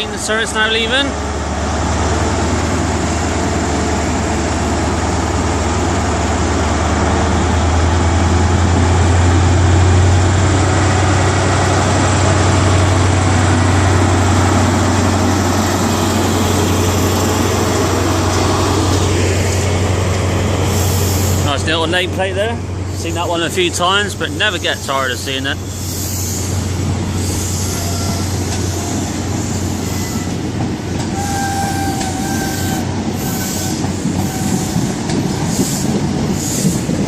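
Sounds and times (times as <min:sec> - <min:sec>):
diesel engine drone: 0:00.0 - 0:37.0
wheel and rail noise: 0:00.0 - 0:37.0.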